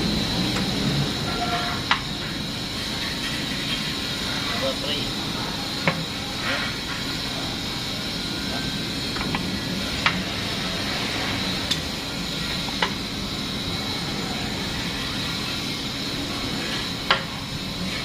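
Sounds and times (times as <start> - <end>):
engine running with heavy knock: 0.0 - 18.0.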